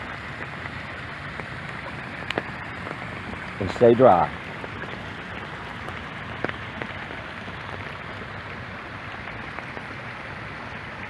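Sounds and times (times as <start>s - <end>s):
water splashing over stones: 0.0s - 11.0s.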